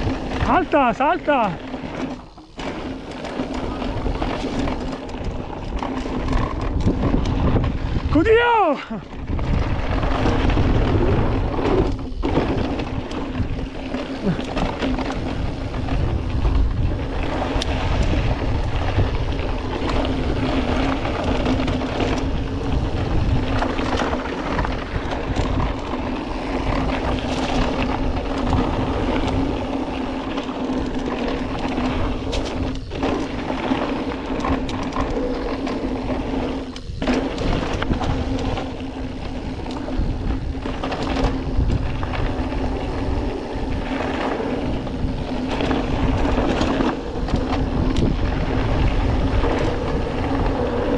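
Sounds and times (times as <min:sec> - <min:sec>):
bike rattling: 0:00.0 - 0:50.9
bike tyres on gravel trail: 0:00.0 - 0:50.9
wind rumble on microphone: 0:00.0 - 0:50.9.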